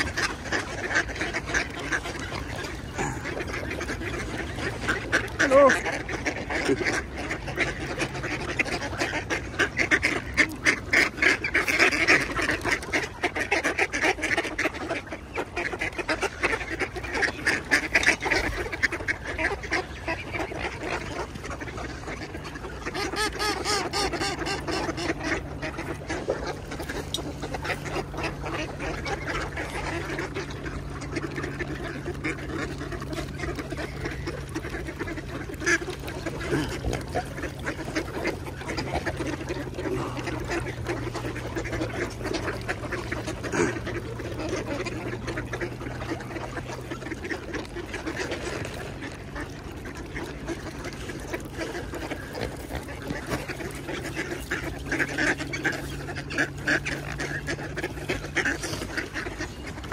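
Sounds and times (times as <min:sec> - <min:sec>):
flock of ducks quacking: 0:00.0 - 0:59.9.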